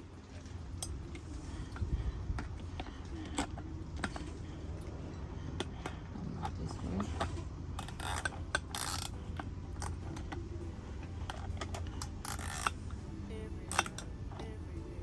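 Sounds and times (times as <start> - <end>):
hand tools and bolts clinking: 0.0 - 14.8
steady low hum: 0.0 - 15.0.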